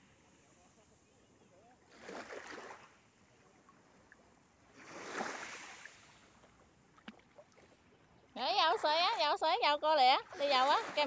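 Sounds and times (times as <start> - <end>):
small waves lapping on sand: 0.0 - 11.0.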